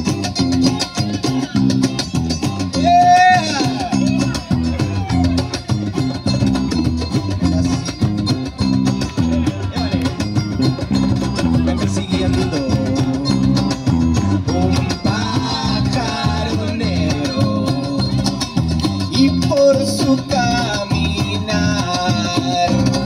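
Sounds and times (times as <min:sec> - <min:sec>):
cajon beat: 0:00.0 - 0:23.0
electric bass line: 0:00.0 - 0:23.0
strummed acoustic guitar: 0:00.0 - 0:23.0.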